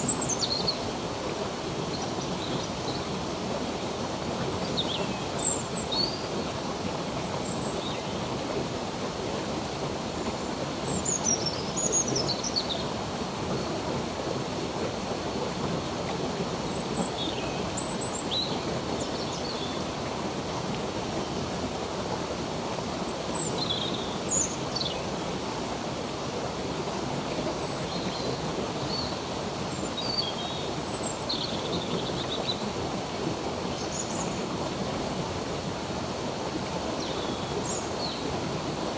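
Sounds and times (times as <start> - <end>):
flowing stream rushing: 5.4 - 38.9.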